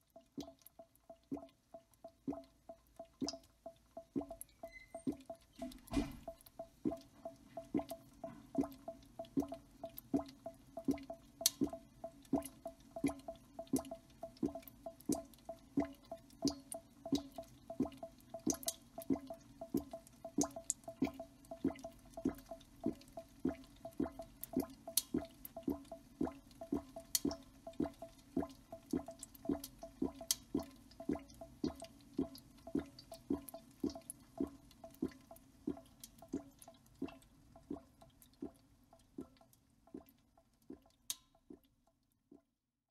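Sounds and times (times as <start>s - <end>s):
drip-like plinks: 0.0s - 42.4s.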